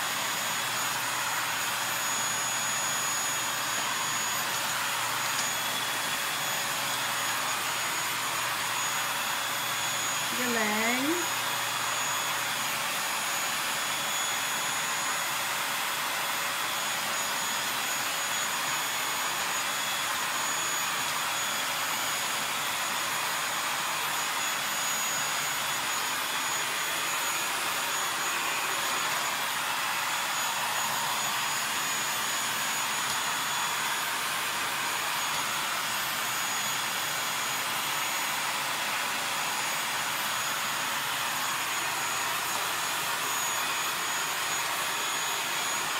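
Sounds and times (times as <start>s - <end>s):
stick vacuum cleaner running: 0.0s - 45.9s.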